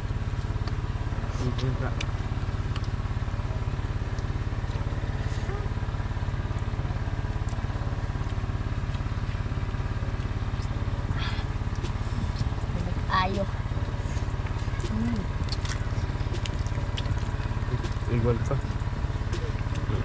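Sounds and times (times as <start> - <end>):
small engine humming: 0.0 - 20.0.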